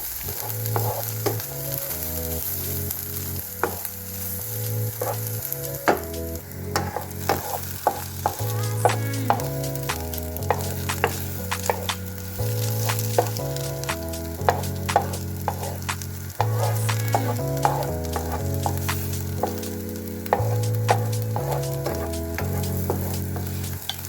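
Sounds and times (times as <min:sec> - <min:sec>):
crackling hiss: 0:00.0 - 0:24.0
beat-driven background music: 0:00.3 - 0:24.0.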